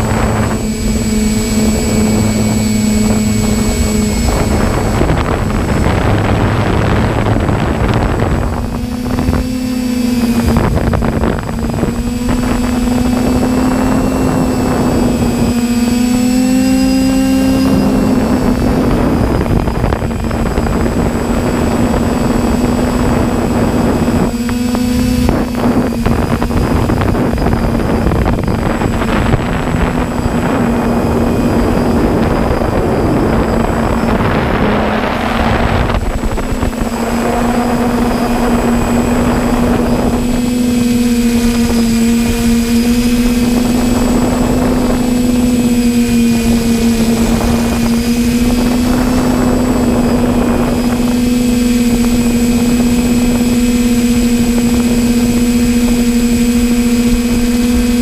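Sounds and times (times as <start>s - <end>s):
drone propellers humming: 0.0s - 58.0s
wind noise on microphone: 0.0s - 58.0s.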